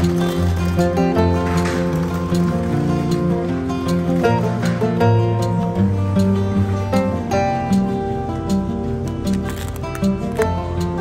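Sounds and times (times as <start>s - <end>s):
acoustic guitar tune: 0.0s - 11.0s.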